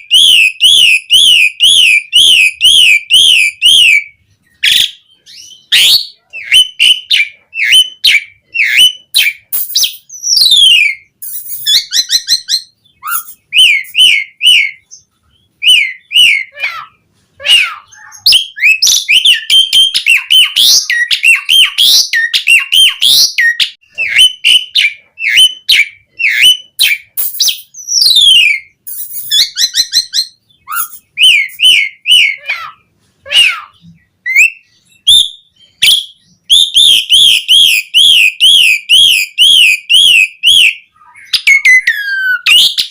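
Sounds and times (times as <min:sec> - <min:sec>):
starling singing whistled notes: 0:00.0 - 0:42.9.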